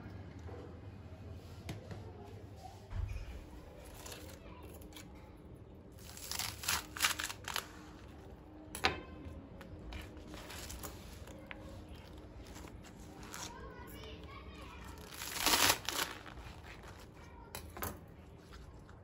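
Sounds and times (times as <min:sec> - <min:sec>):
rustling of things handled: 0:02.3 - 0:19.0.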